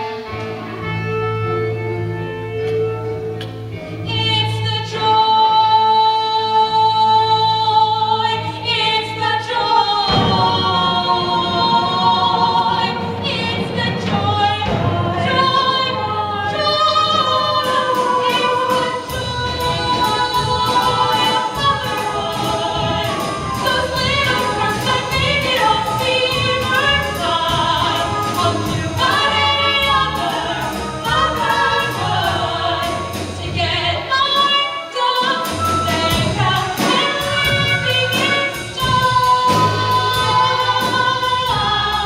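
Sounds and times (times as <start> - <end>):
instrumental accompaniment: 0.0 - 42.0
ensemble singing in chorus: 4.8 - 42.0.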